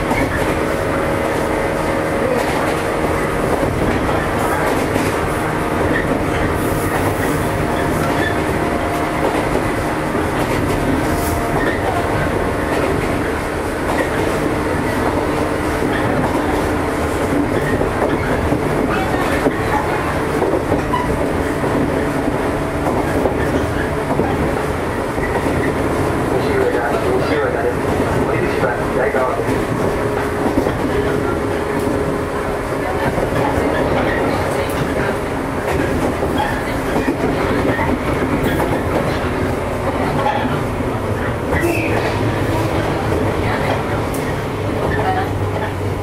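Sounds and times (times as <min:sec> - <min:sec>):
wheels clacking over rail joints: 0:00.0 - 0:45.8
electric train rumble: 0:00.0 - 0:46.0.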